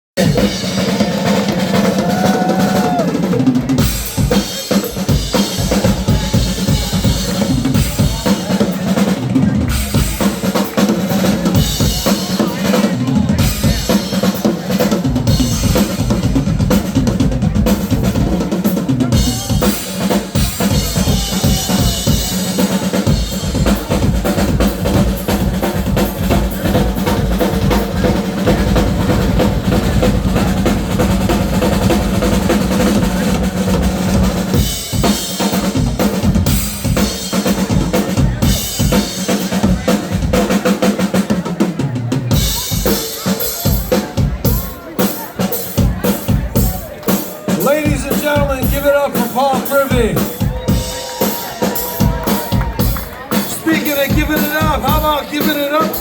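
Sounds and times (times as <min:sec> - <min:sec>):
drum kit: 0:00.2 - 0:56.0
polka band playing: 0:00.2 - 0:56.0.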